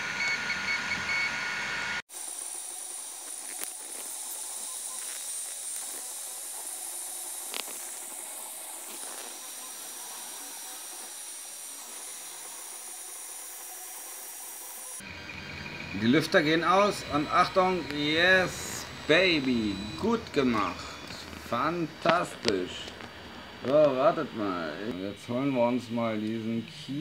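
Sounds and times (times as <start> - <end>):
printer cooling fans hissing: 2.1 - 27.0
faint high whine: 2.2 - 27.0.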